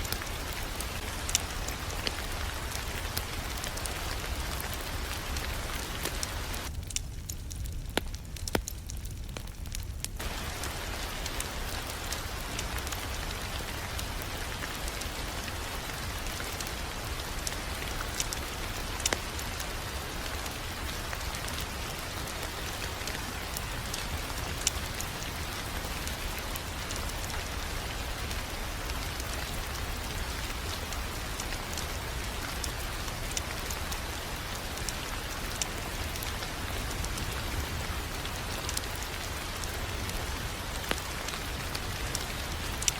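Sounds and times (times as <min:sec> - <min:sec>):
fire hissing and rumbling: 0:00.0 - 0:42.9
fire popping and snapping: 0:00.0 - 0:42.9.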